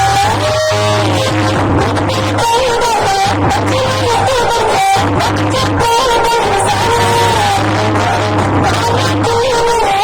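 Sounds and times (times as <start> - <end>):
loud dance music: 0.0 - 10.0.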